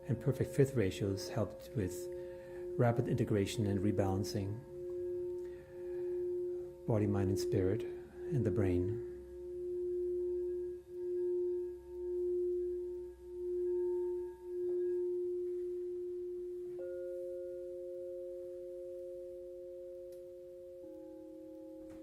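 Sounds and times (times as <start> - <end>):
crystal singing bowl ringing: 0.0 - 22.0
higher singing bowl tone: 0.0 - 22.0.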